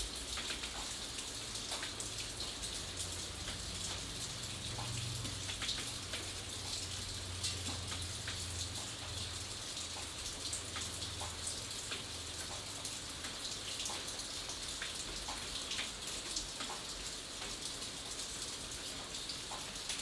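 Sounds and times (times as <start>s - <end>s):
rain drops ticking on hard surface: 0.0s - 20.0s.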